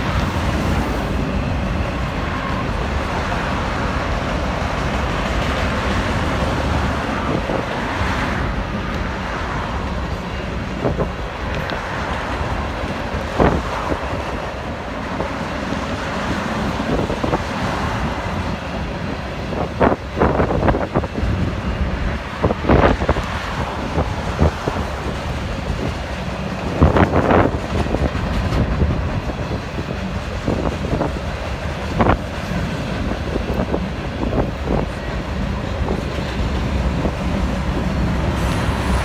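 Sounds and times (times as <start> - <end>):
freight train rolling past: 0.0 - 39.0
sharp clicks from train cars: 4.0 - 21.5, 22.2 - 39.0.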